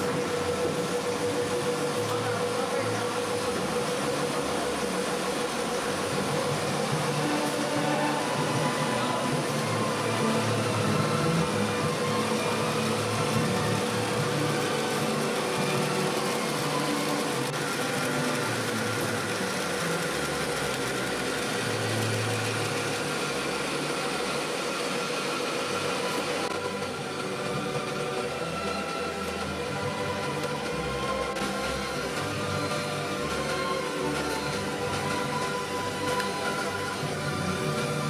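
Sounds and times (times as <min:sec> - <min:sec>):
machinery running: 0:00.0 - 0:38.0.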